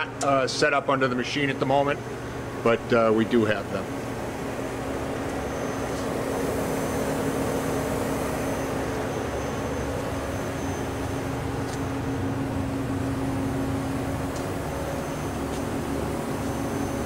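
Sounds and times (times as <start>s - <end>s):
machine spindle and drives humming: 0.0s - 17.0s.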